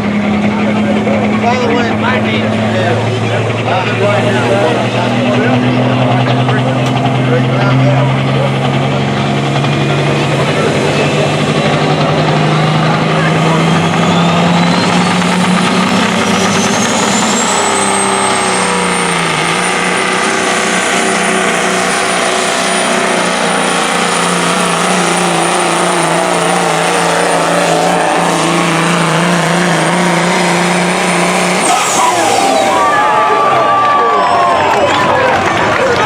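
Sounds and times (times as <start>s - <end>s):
turbo whine: 0.0s - 35.3s
diesel truck engine under load: 0.0s - 36.0s.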